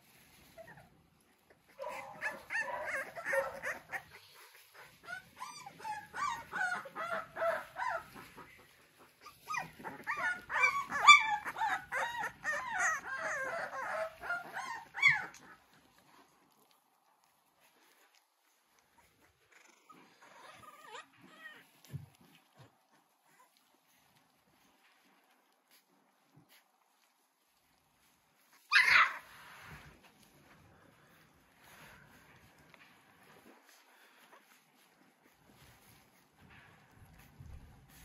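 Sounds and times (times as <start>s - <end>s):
puppies whining and yipping: 0.1s - 38.0s.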